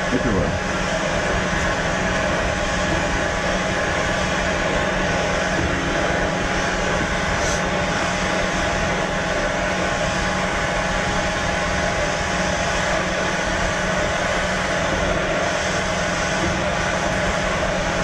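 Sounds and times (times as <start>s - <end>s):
workshop machine droning: 0.0s - 18.0s.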